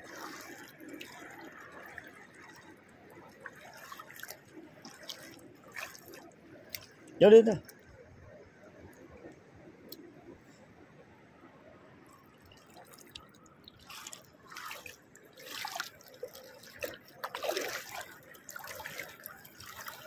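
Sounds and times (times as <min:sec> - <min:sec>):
feet wading through shallow water: 0:00.0 - 0:10.8, 0:12.0 - 0:20.0.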